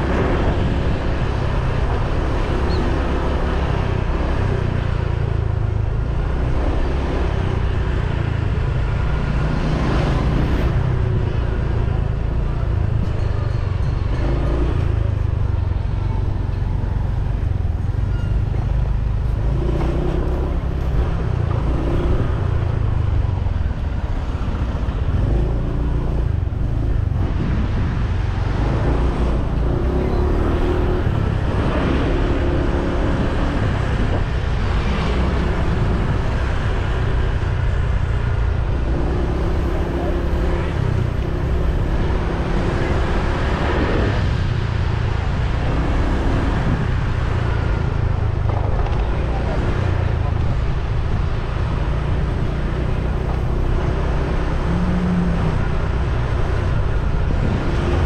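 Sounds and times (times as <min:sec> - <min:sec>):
motorbike engine rumble: 0:00.0 - 0:58.0
vehicles passing: 0:00.0 - 0:58.0.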